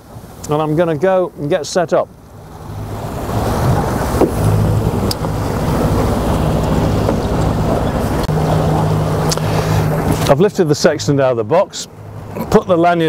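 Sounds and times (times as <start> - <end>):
boat engine idling: 0.0 - 13.0
water noise: 0.0 - 13.0
wind: 0.0 - 13.0.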